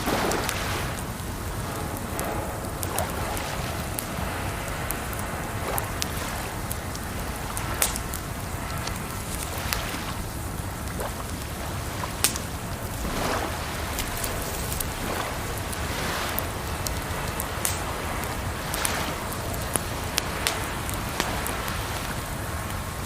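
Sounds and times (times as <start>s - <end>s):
running water rushing: 0.0s - 23.0s
wood fire crackling and popping: 0.0s - 23.0s.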